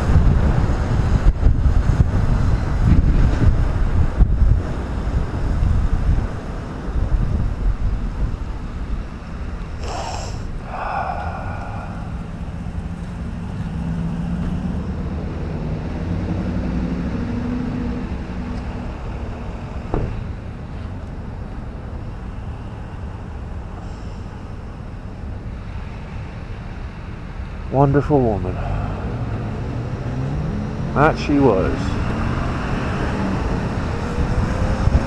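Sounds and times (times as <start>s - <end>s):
wind rumble on microphone: 0.0s - 27.7s, 28.5s - 35.0s.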